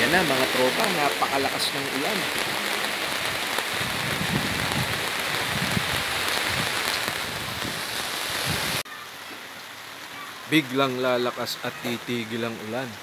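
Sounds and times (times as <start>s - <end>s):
heavy rain on plastic sheeting: 0.0s - 13.0s.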